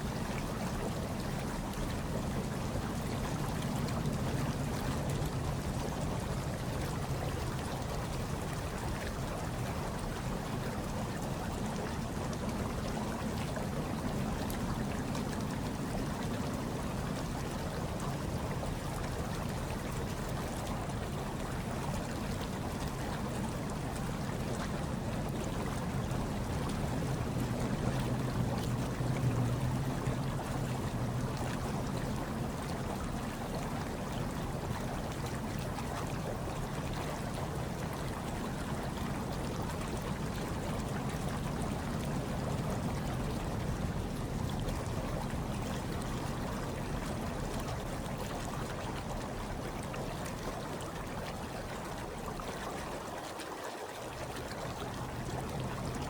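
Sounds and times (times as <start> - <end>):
low steady hum: 0.0 - 53.2
hot tub water bubbling: 0.0 - 56.0.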